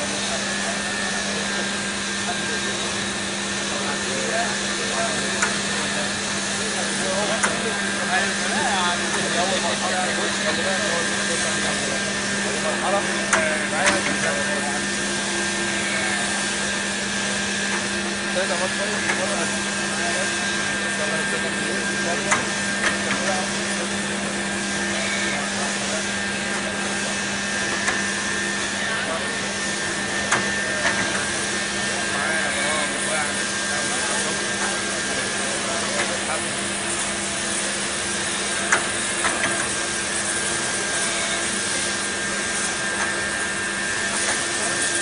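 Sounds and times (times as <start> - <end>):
machine mechanical hum: 0.0 - 45.0.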